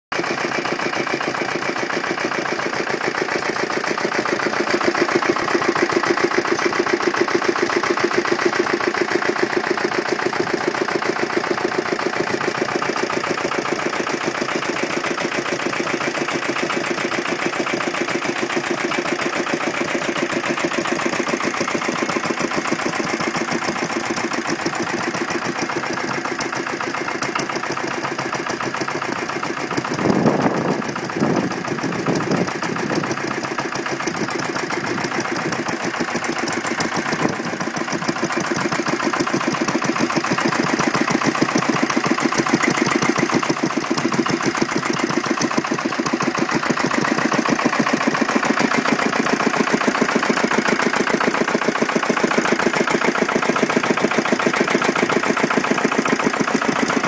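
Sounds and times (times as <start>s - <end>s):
stationary engines running: 0.2s - 57.0s.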